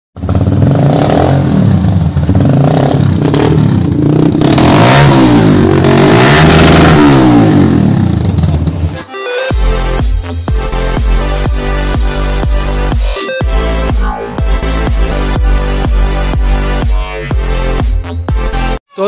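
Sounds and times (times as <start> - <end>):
motorcycle engine revving: 0.2 - 18.8.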